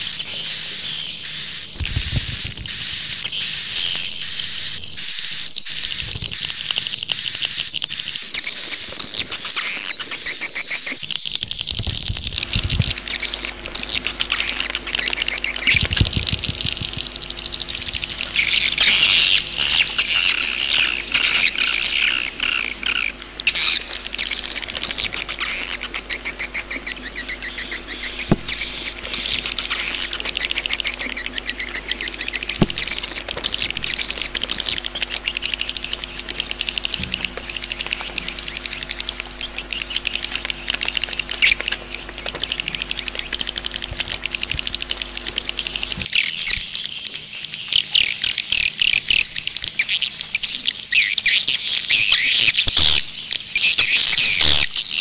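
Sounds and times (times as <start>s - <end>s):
low steady hum: 0.0s - 55.0s
swiftlets chirping: 0.0s - 55.0s.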